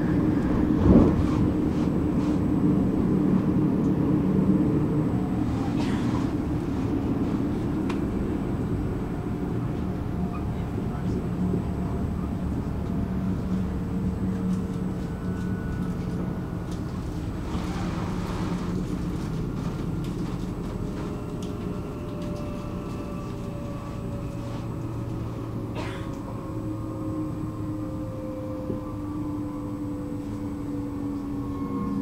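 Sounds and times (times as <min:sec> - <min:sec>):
train motor whine: 0:00.0 - 0:32.0
train rumbling on rails: 0:00.0 - 0:32.0.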